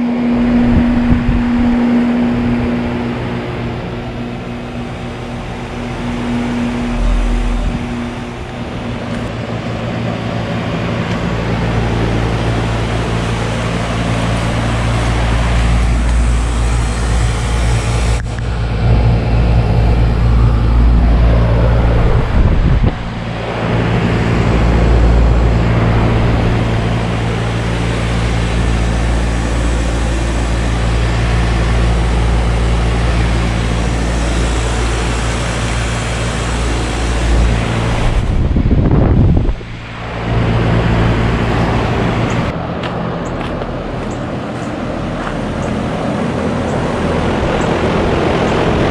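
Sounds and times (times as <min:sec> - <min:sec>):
compressor hum: 0:00.0 - 0:48.9
condenser fan rushing: 0:00.0 - 0:48.9.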